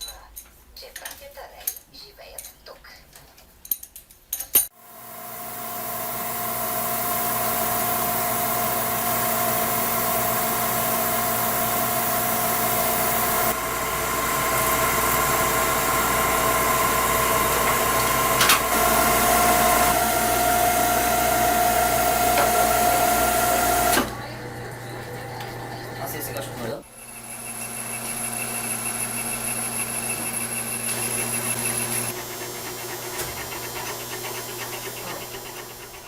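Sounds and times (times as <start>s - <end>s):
machine whining: 5.1s - 36.0s.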